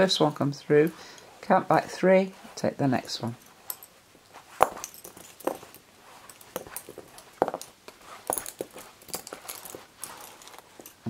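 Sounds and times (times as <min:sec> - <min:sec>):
lace bobbins clacking: 0:00.0 - 0:11.0.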